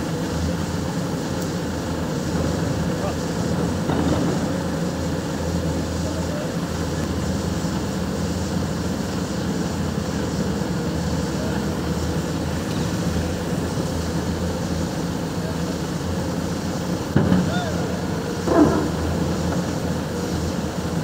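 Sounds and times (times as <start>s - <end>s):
crane engine and winch humming: 0.0s - 21.0s.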